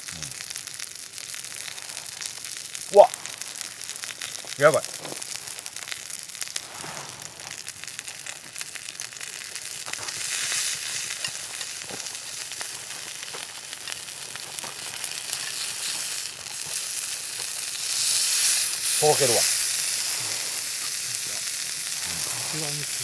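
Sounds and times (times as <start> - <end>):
steak sizzling on a griddle: 0.0 - 23.0.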